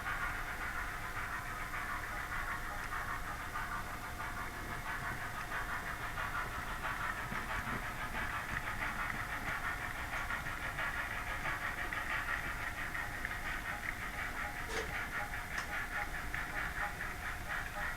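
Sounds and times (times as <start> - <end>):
model train whirring: 0.0 - 17.9.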